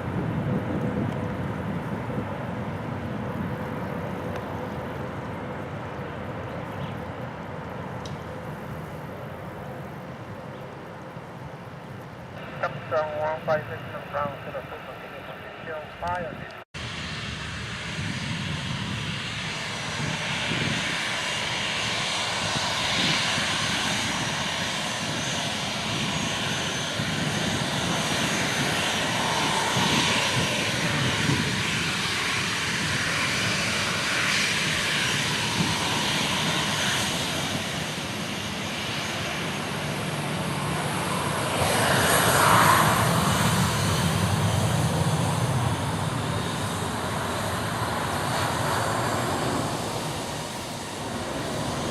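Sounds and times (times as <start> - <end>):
jet engines running: 0.0 - 51.9.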